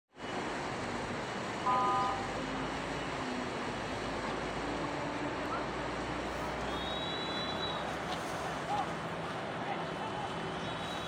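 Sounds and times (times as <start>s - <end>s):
road and river rushing: 0.1s - 11.0s.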